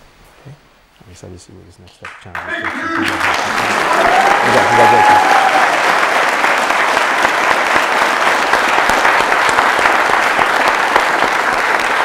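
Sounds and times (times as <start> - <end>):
crowd clapping: 2.0 - 12.0.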